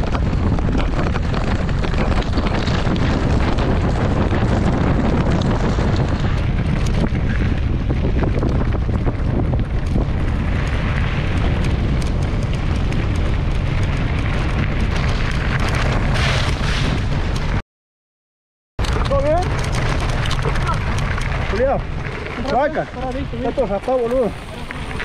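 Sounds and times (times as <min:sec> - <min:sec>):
wind buffeting microphone: 0:00.0 - 0:17.6, 0:18.8 - 0:25.0.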